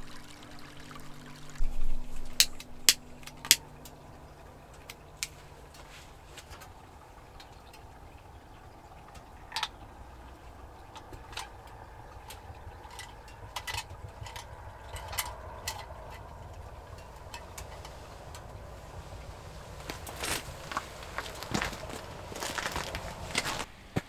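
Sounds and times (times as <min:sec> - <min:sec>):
wood fire crackling: 0:00.0 - 0:23.7
low steady rumble: 0:00.0 - 0:23.9.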